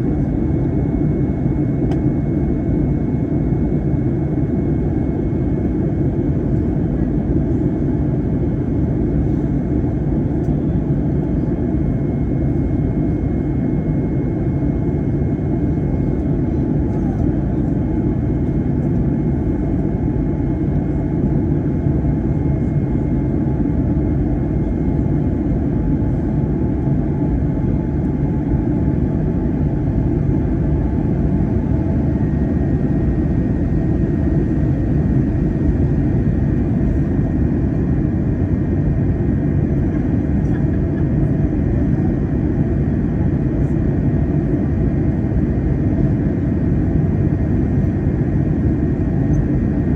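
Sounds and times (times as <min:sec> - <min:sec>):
airliner cabin engine roar: 0:00.0 - 0:49.9.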